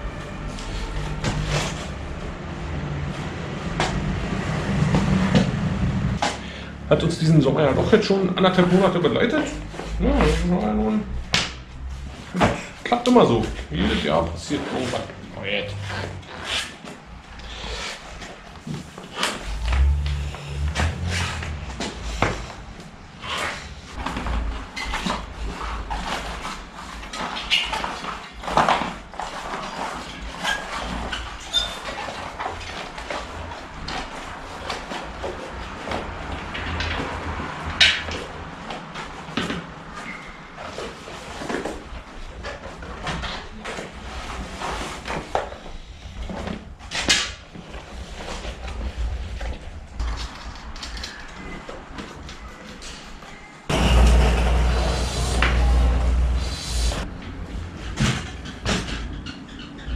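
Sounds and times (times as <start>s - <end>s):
rubber tyre rubbing: 0.2s - 52.5s, 53.7s - 59.9s.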